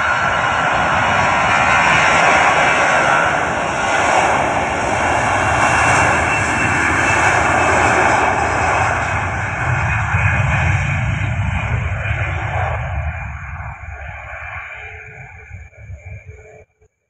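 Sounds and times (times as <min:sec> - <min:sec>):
jet engines roaring: 0:00.0 - 0:16.7.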